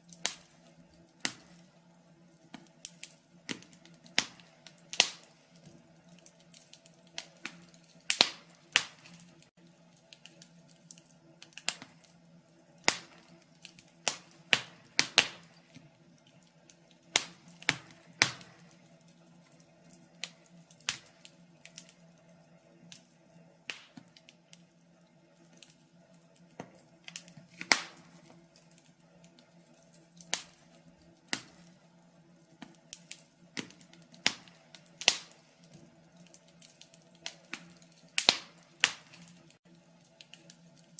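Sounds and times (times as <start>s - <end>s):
faint steady hum: 0.0s - 40.9s
log fire crackling: 0.0s - 40.9s.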